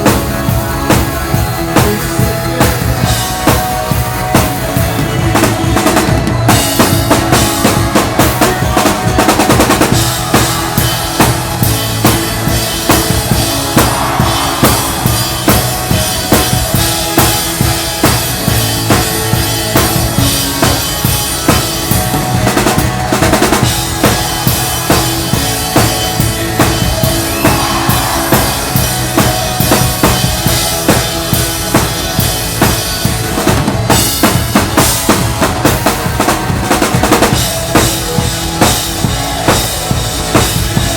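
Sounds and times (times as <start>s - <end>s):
band bass and chords: 0.0s - 40.9s
drum kit playing: 0.0s - 40.9s.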